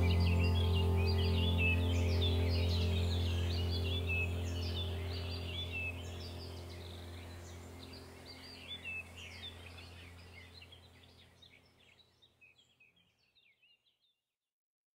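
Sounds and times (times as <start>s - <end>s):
steady low hum: 0.0s - 12.2s
small birds chirping: 0.0s - 14.2s.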